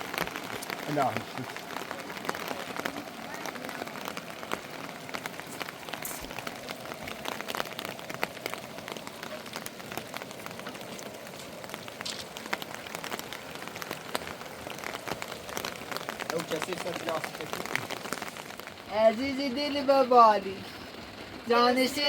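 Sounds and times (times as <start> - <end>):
raindrops ticking on a surface: 0.0 - 22.0
steady rain: 0.0 - 22.0.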